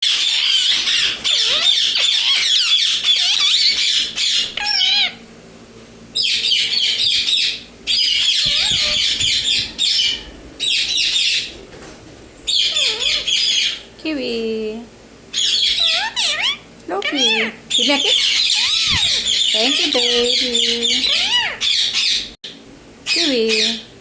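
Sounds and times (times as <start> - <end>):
parrots squawking and chattering: 0.0 - 5.3, 6.2 - 11.9, 12.5 - 13.9, 15.3 - 22.4.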